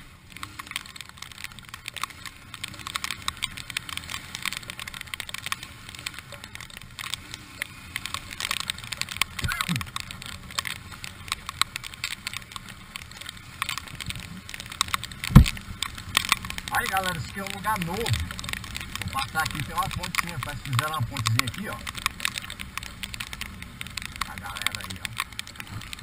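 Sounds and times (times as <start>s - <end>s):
rain ticking on camera: 0.0s - 26.0s.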